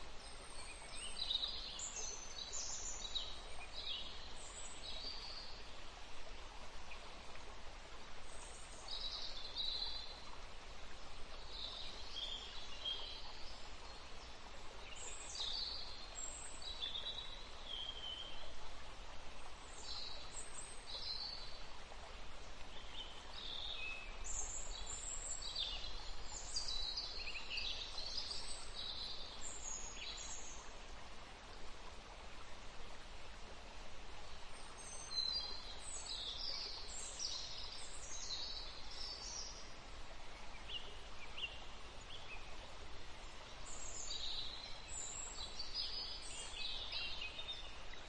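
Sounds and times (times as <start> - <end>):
outdoor ambience hiss: 0.0 - 48.0.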